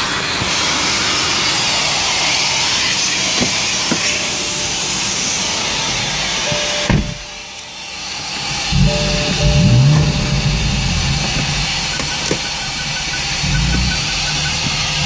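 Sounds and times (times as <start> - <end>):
car-wash equipment hissing: 0.0 - 15.0.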